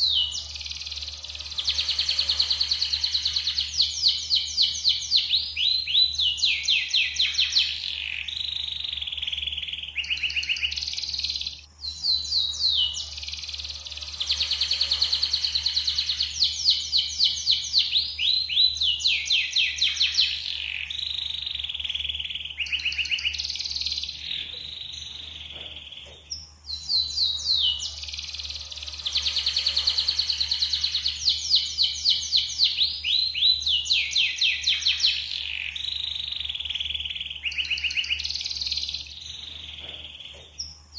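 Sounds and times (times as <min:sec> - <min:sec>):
canary singing: 0:00.0 - 0:40.9
faint low hum: 0:00.0 - 0:40.9.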